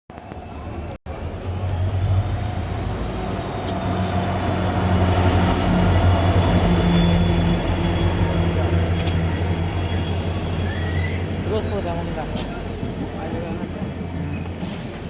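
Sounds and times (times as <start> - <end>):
train rumble and hum: 0.1 - 15.0
train brakes squealing: 1.1 - 15.0.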